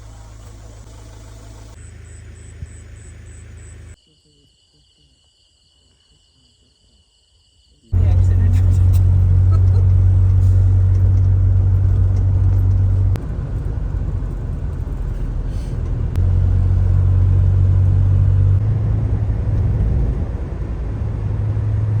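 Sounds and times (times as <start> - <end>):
vehicle rumbling on the move: 0.0 - 4.0, 7.9 - 22.0.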